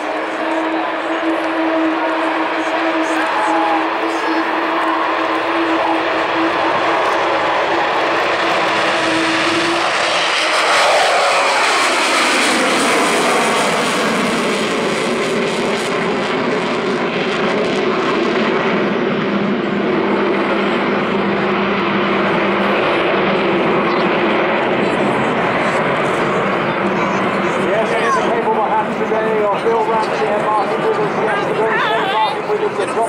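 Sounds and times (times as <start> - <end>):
jet aircraft roar: 0.0 - 33.0.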